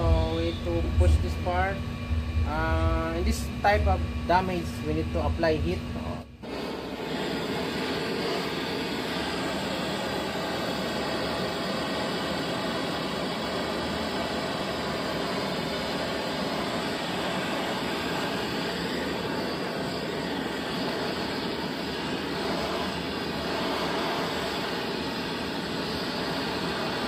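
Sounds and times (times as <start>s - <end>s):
gas torch rushing: 0.0s - 27.0s.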